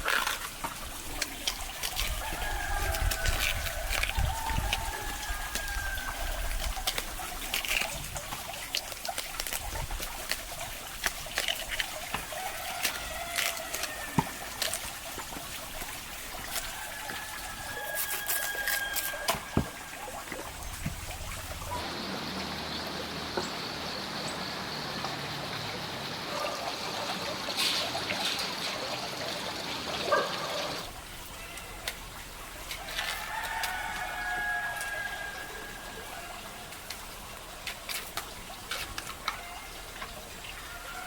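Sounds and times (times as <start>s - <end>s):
rush of running water: 0.0s - 41.0s
water trickling and splashing: 0.0s - 41.0s.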